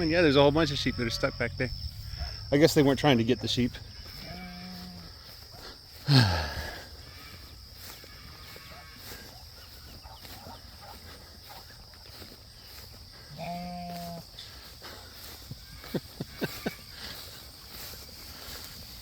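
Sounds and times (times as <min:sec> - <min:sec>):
livestock calling: 0:00.0 - 0:01.7, 0:03.9 - 0:19.0
insects droning: 0:00.0 - 0:19.0.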